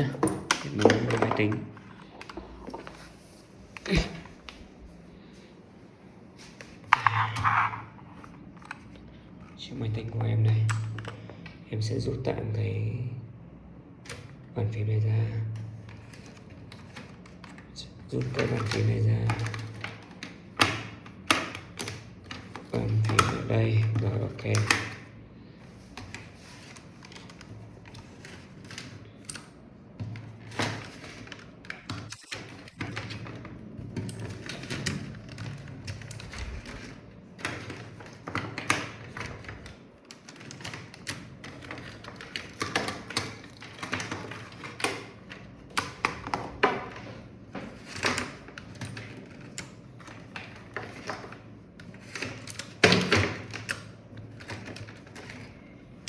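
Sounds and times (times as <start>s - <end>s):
keyboards and cables handled on desk: 0.0s - 11.6s, 15.5s - 56.0s.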